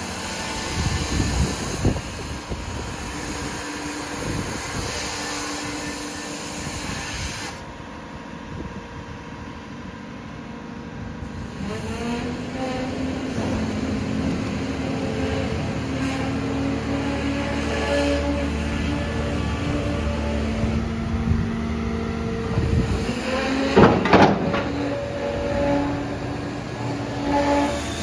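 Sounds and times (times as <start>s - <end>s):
diesel engine under hydraulic load: 0.0s - 28.0s.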